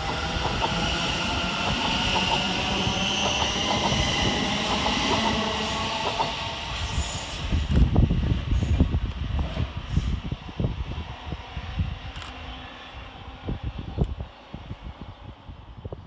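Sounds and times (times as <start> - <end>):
electric train whine: 0.0 - 16.0
wind buffeting microphone: 0.0 - 16.0.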